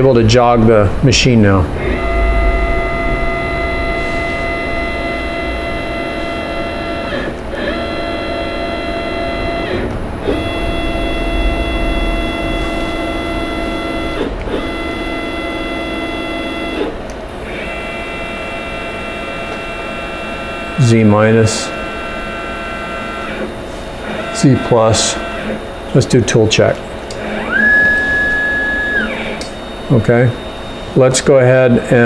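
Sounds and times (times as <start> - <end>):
machine drive motors whining: 0.0 - 32.0.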